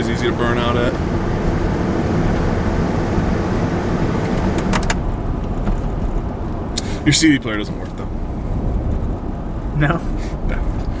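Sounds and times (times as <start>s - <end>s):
car engine running: 0.0s - 11.0s
road noise inside car: 0.0s - 11.0s.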